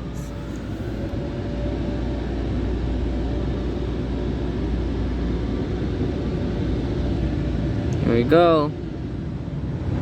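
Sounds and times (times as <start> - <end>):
car wash machinery rushing: 0.0 - 10.0.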